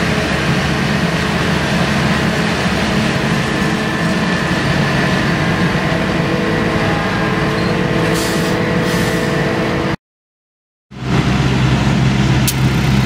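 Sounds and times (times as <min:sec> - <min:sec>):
tractor diesel engine droning: 0:00.0 - 0:10.0, 0:10.9 - 0:13.0.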